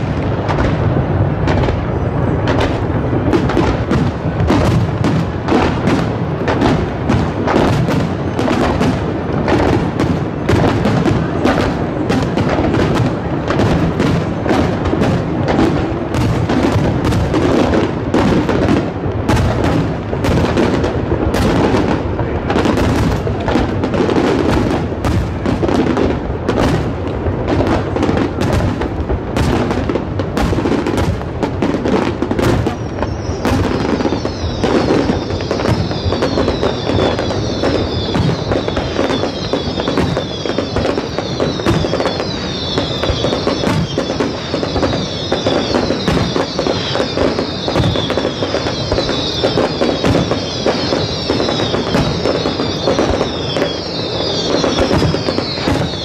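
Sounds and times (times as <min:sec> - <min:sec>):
fireworks bursts and bangs: 0:00.0 - 0:56.0
high falling whistling fireworks: 0:00.0 - 0:56.0.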